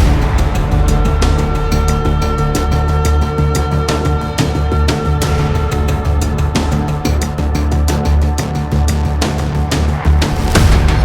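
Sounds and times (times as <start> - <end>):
driving music with bass and drums: 0.0 - 11.0.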